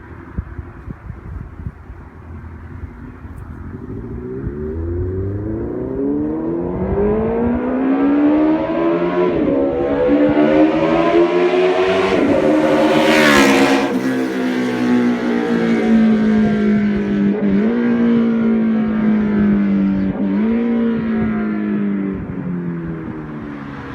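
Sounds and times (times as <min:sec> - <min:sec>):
motorcycle engine revving: 0:02.2 - 0:23.9.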